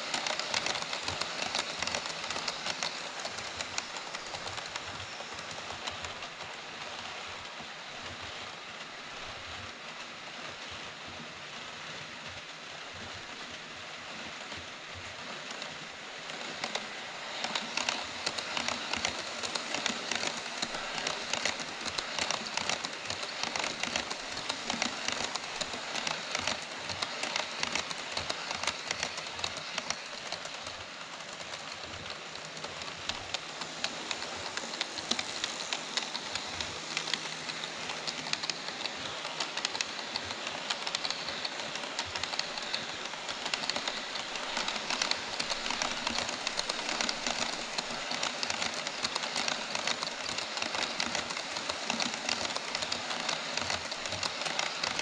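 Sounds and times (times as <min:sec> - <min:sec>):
model trains rattling on track: 0:00.0 - 0:55.0.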